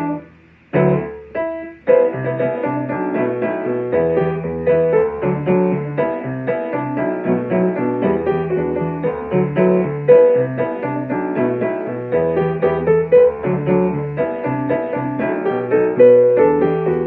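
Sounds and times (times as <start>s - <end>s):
solo piano pop tune: 0.0s - 17.0s.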